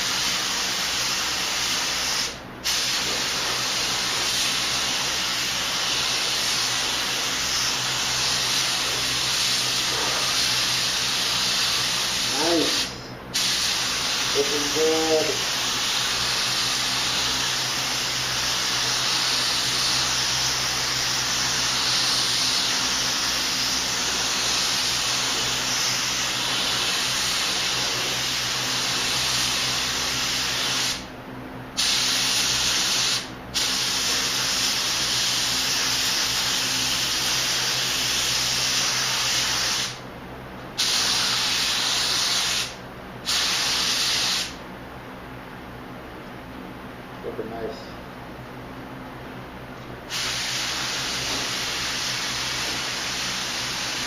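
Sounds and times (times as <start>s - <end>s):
paint spray gun hissing: 0.0s - 31.1s, 31.8s - 40.0s, 40.8s - 44.6s, 50.1s - 54.0s.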